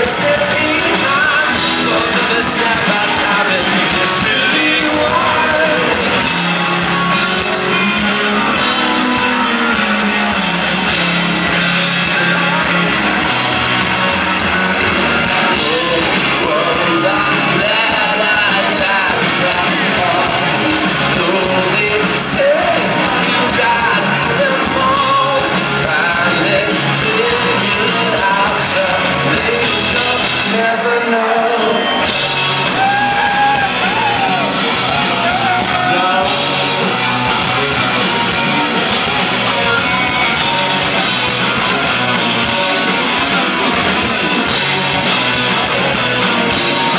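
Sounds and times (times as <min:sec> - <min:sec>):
drums: 0:00.0 - 0:46.9
electric guitars: 0:00.0 - 0:46.9
person singing lead vocal: 0:00.0 - 0:46.9.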